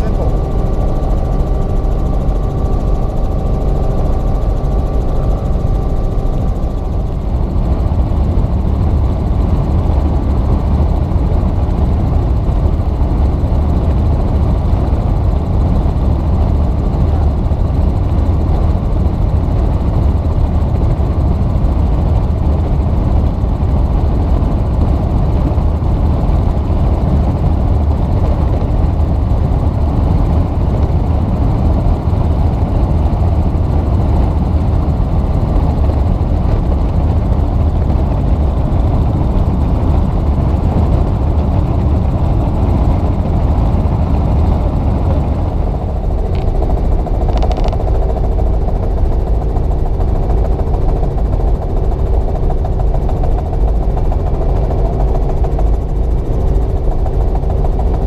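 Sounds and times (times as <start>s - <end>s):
helicopter rumble inside cabin: 0.0s - 58.0s.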